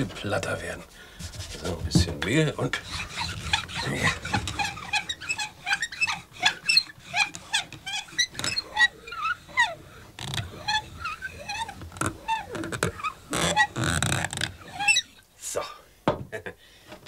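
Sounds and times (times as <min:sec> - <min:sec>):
rolling pin squeaking on dough: 0:00.0 - 0:15.3.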